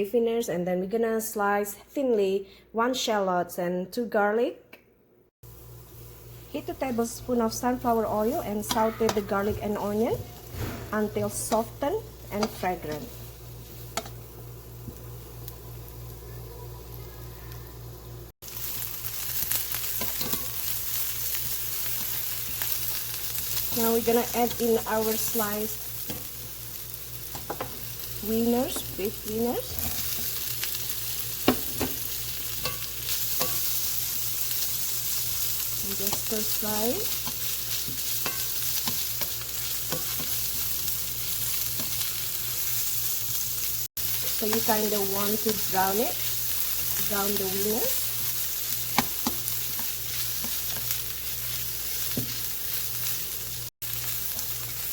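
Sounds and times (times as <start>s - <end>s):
garlic sizzling in oil: 5.4s - 54.9s.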